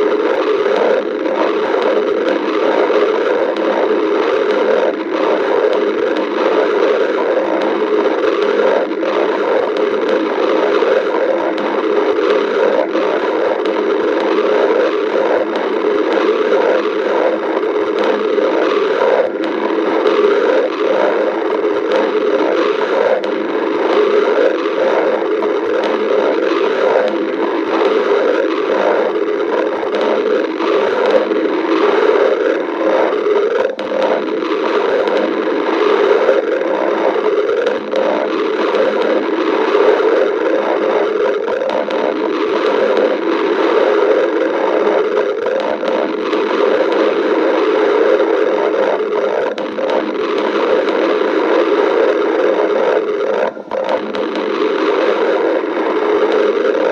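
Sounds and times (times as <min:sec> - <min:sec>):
stomach growling and gurgling: 0:00.0 - 0:56.9.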